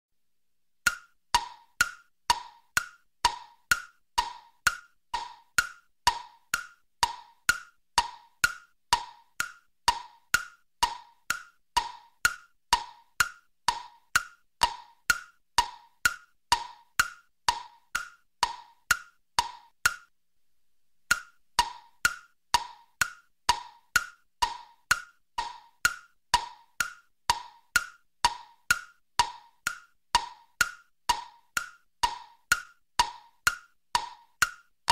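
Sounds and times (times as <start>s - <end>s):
wood-block percussion loop: 0.8s - 20.1s, 21.1s - 34.9s.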